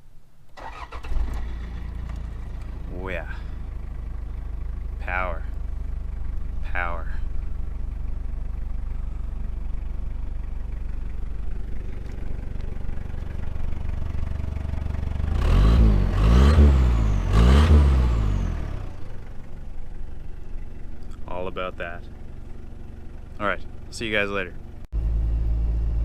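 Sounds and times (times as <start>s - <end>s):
diesel engine idling and revving: 0.6s - 26.0s.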